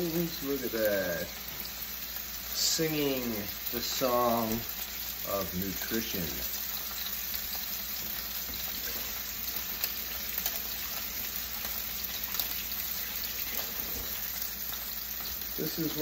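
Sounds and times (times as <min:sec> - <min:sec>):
steaks sizzling in oil: 0:00.0 - 0:16.0.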